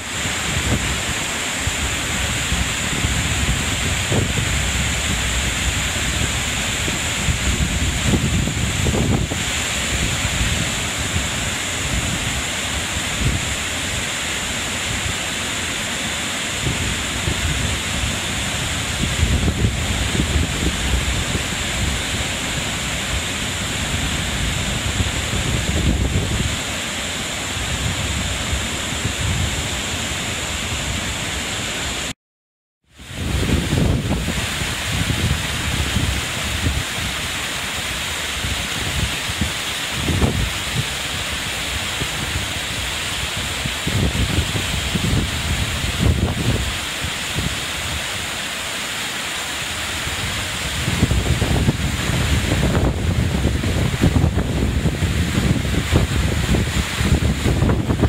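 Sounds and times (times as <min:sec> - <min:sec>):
waterfall rushing: 0:00.0 - 0:32.2, 0:33.0 - 0:58.0
wind gusting across microphone: 0:00.0 - 0:32.2, 0:33.0 - 0:58.0.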